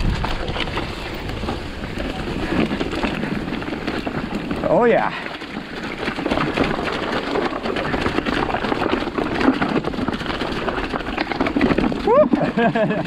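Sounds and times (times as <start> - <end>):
bike rattling over bumps: 0.0 - 13.0
tyres running through dry leaves: 0.0 - 13.0.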